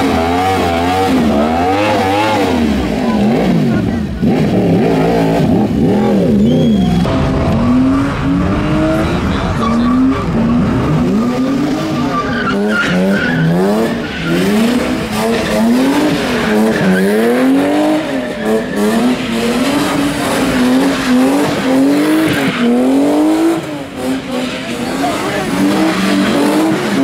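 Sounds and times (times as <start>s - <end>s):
car engine revving: 0.0s - 27.0s
tyres skidding: 0.0s - 27.0s.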